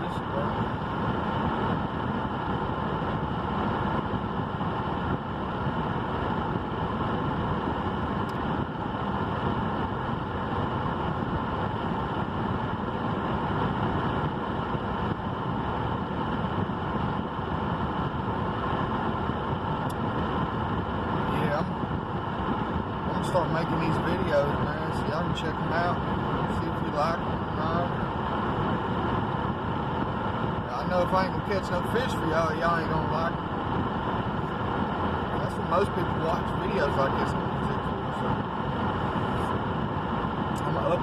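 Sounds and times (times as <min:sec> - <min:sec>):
steady engine-like drone: 0:00.0 - 0:41.0.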